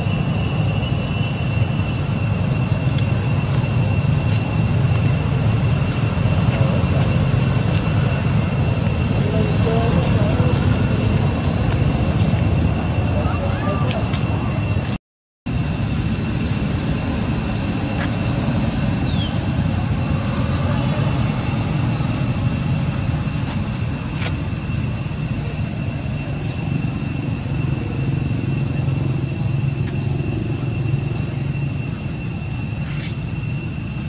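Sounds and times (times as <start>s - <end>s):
high-pitched insect drone: 0.0s - 34.0s
low outdoor rumble: 0.0s - 34.0s.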